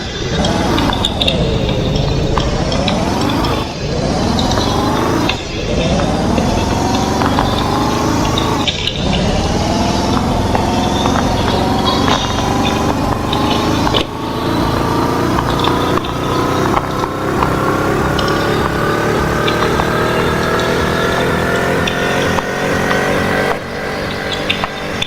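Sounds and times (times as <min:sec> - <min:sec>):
vehicle accelerating with road noise: 0:00.0 - 0:25.0.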